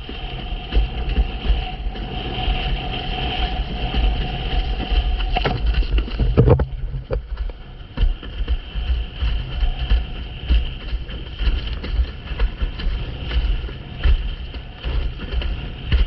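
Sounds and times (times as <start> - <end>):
water rushing under board: 0.0 - 16.0
wind buffeting microphone: 0.0 - 16.0.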